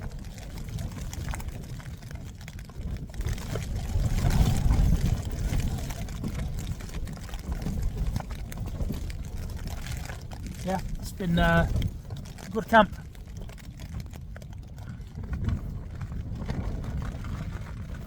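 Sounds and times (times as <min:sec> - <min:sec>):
wind gusting against tent: 0:00.0 - 0:18.0.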